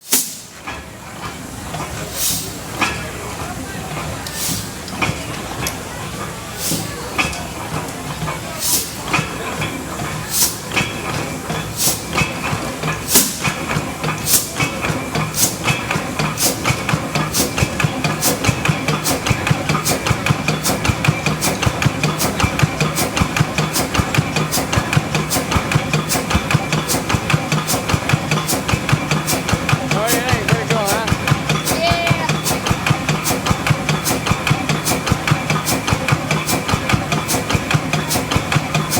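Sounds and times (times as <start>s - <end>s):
engine exhaust cracking: 7.2s - 38.9s.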